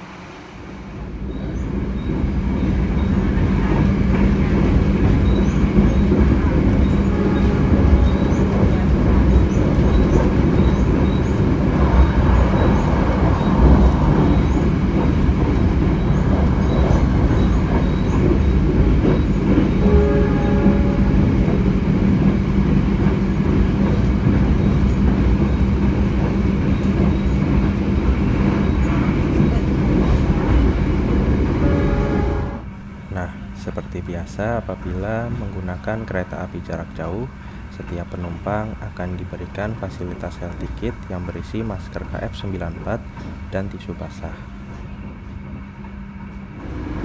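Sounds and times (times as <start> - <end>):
wheels rumbling on rail: 0.0 - 47.0.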